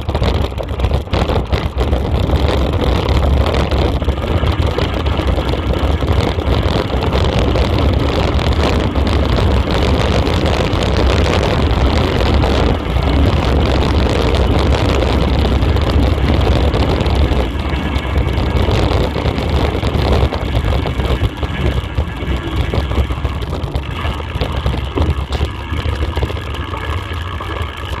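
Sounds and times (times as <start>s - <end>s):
rumble of riding on dirt track: 0.0s - 28.0s
wind buffeting camera: 0.0s - 28.0s.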